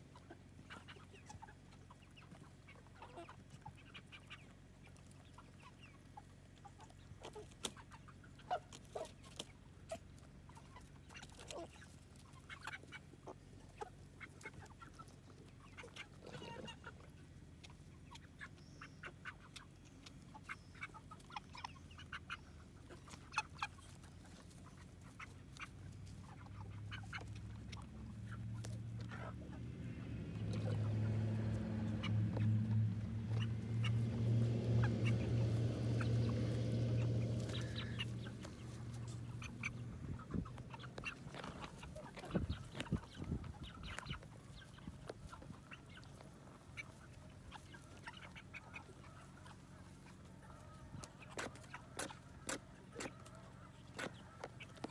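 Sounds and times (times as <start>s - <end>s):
chickens clucking: 0.0s - 54.9s
geese honking: 0.0s - 54.9s.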